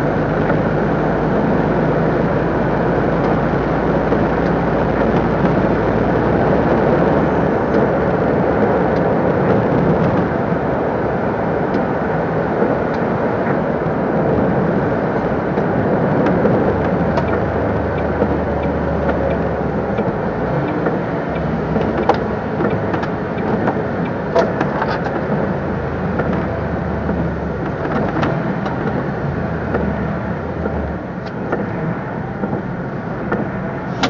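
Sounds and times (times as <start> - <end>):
diesel engine drone: 0.0 - 34.0
tyres on wet road: 0.0 - 34.0.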